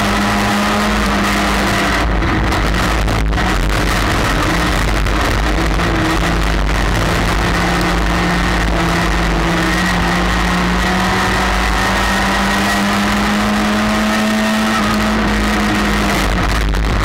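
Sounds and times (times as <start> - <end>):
race car engine under throttle: 0.0 - 17.0.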